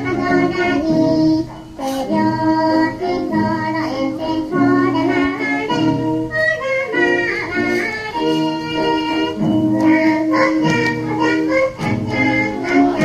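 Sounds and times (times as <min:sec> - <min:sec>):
children singing: 0:00.0 - 0:13.0
instrumental backing music: 0:00.0 - 0:13.0.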